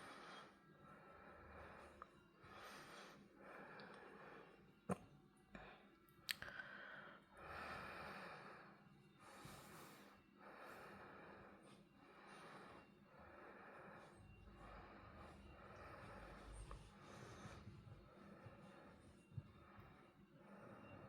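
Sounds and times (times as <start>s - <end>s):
soft slow breathing: 0.0s - 4.9s, 5.5s - 21.0s.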